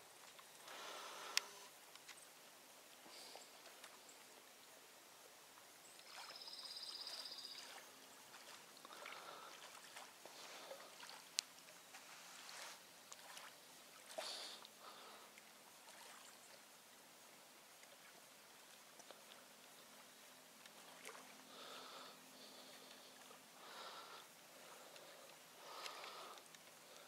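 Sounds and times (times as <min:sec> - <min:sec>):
small waves lapping shore: 0:00.0 - 0:27.0.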